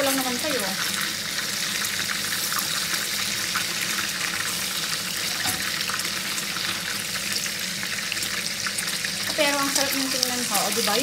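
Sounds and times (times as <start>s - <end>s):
oil sizzling with crackles and pops: 0.0s - 11.0s.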